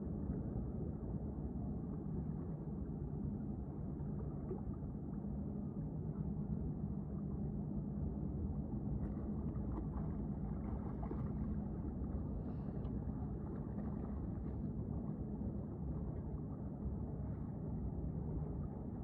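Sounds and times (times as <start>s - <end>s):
muffled boat motor running: 1.8s - 19.0s.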